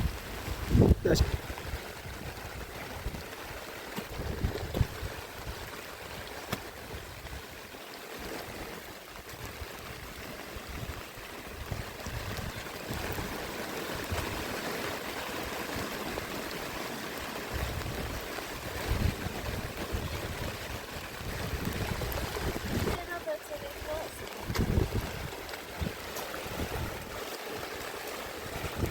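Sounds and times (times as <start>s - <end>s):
rain falling: 0.0s - 28.9s
wind rumbling on microphone: 0.0s - 28.9s.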